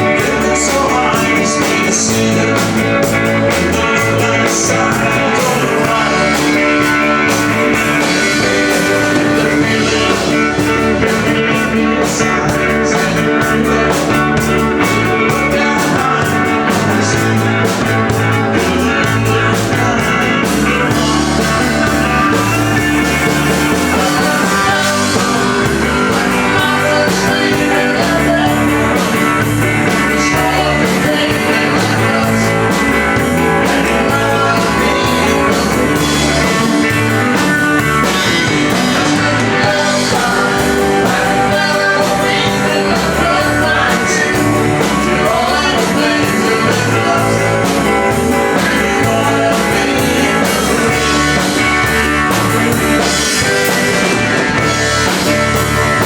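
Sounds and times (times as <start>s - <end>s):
country band playing: 0.0s - 56.0s
guitar: 0.0s - 56.0s.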